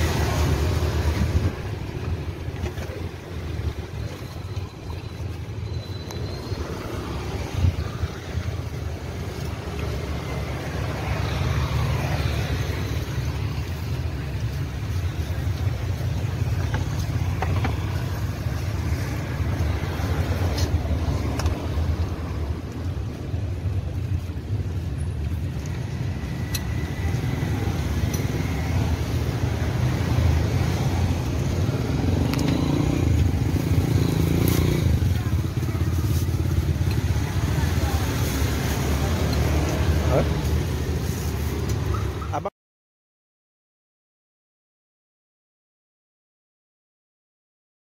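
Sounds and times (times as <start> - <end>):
traffic rumble: 0.0 - 42.5.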